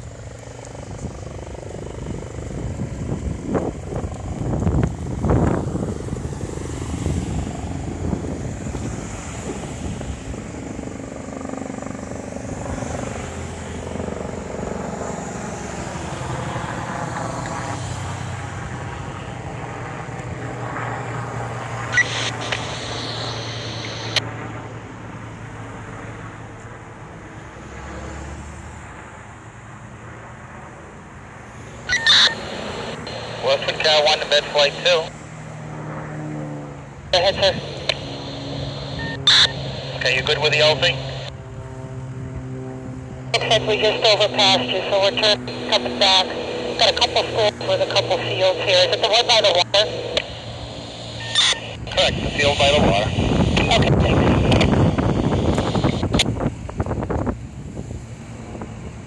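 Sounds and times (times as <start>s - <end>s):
helicopter flying overhead: 0.0s - 59.0s.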